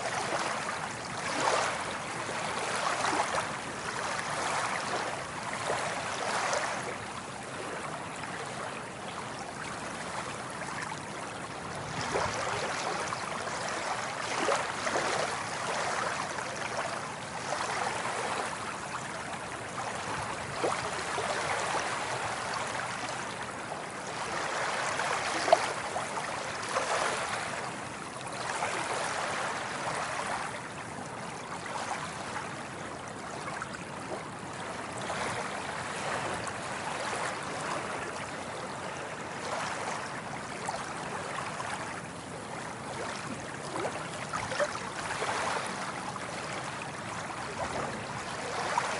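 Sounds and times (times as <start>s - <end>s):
small waves lapping: 0.0s - 48.9s.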